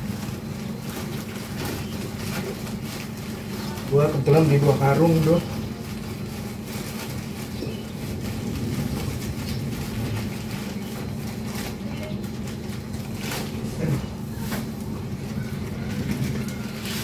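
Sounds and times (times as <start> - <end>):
low mechanical hum: 0.0 - 17.0
rustling and scraping: 0.0 - 17.0.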